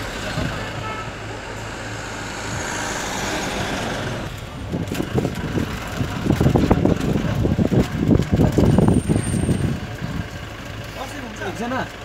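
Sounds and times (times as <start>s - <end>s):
vehicle rushing noise: 0.0s - 10.6s
vehicle rumble with knocking: 0.0s - 12.0s.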